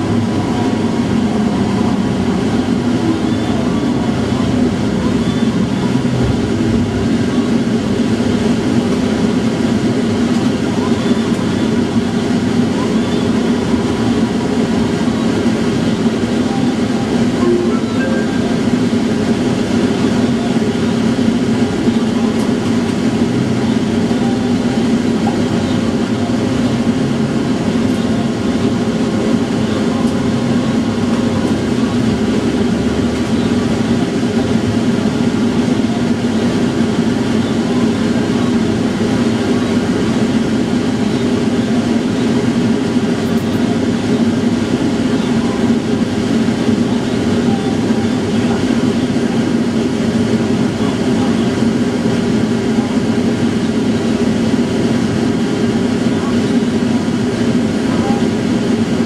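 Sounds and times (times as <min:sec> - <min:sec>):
tram hum and rumble: 0:00.0 - 0:59.0.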